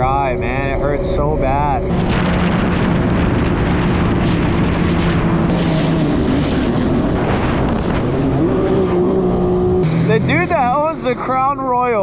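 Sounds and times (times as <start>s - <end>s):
jet ski engine running: 0.0s - 11.7s
wind: 0.0s - 12.0s.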